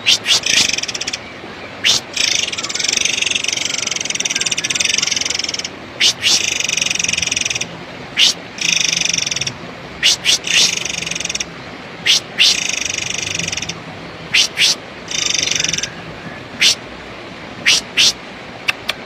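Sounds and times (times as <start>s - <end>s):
bird buzzy trills: 0.0s - 16.8s, 17.6s - 18.2s.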